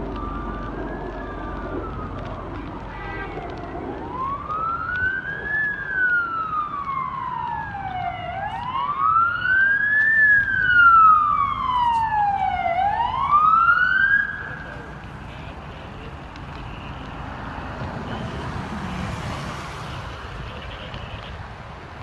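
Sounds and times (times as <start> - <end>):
emergency vehicle siren wailing: 0.0 - 22.0.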